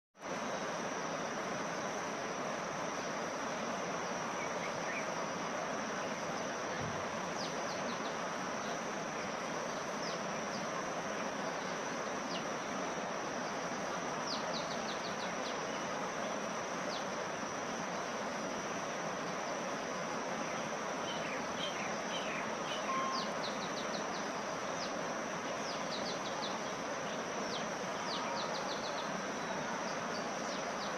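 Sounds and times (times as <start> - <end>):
background hiss: 0.2 - 30.9.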